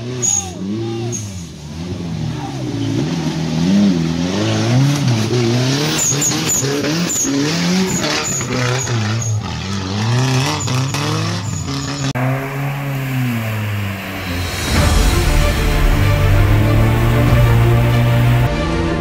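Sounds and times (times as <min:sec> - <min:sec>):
engine revving hard: 0:00.0 - 0:19.0.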